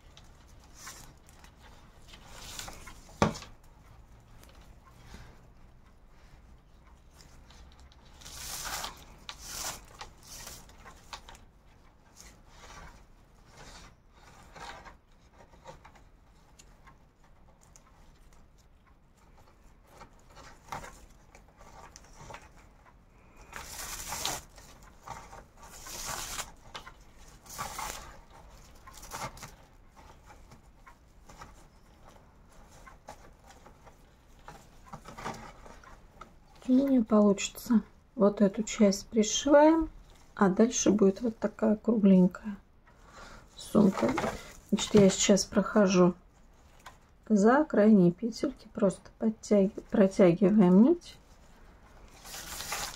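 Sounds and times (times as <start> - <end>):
paper yarn rustling: 0.0 - 42.4, 43.0 - 47.3, 50.7 - 52.9.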